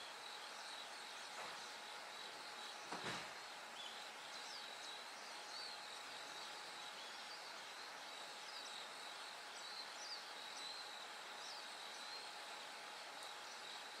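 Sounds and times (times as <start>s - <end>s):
soft outdoor hiss: 0.0s - 14.0s.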